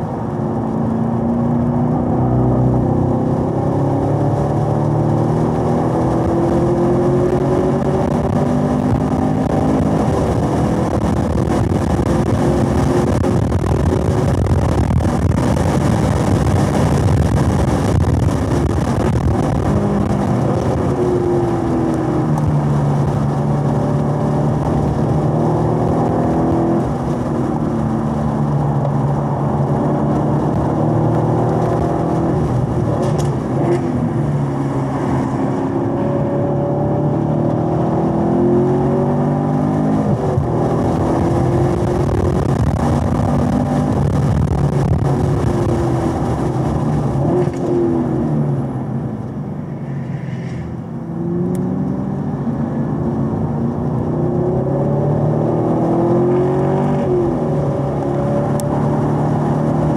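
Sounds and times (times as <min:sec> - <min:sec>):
car engine at speed: 0:00.0 - 0:59.9.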